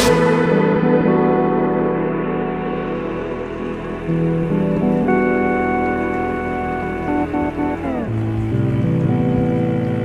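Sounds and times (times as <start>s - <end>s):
held synth chords: 0.0s - 10.0s
low bass: 0.0s - 10.0s.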